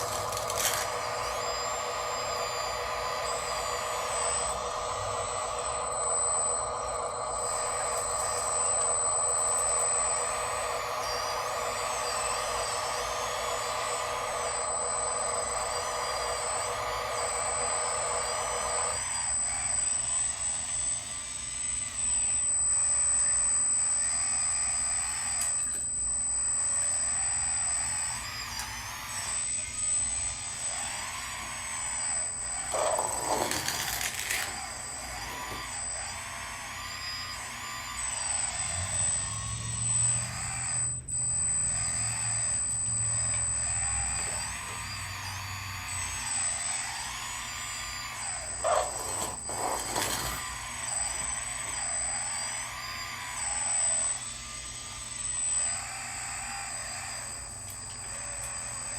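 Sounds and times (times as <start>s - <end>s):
small electric motors whining: 0.0s - 58.9s
steady multi-tone hum: 0.0s - 58.9s.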